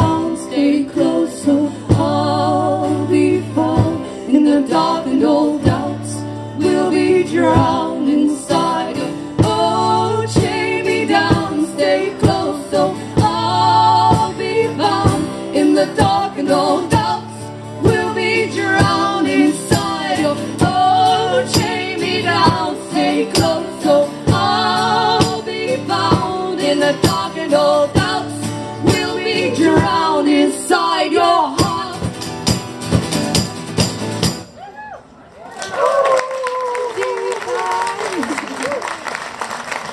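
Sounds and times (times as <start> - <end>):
strummed acoustic guitar: 0.0 - 30.7, 31.5 - 34.5
women singing in harmony: 0.0 - 32.2.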